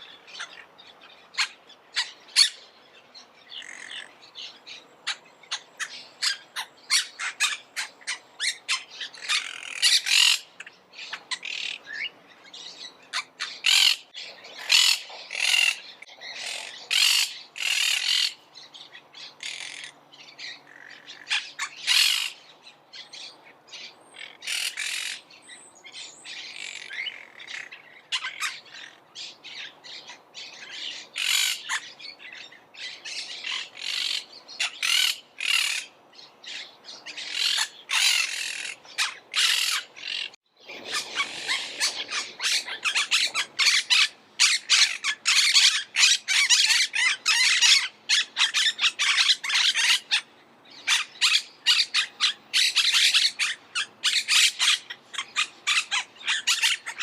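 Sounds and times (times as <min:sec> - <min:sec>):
parakeets squawking: 0:00.1 - 0:02.6, 0:03.5 - 0:22.5, 0:24.2 - 0:25.2, 0:26.3 - 0:57.0.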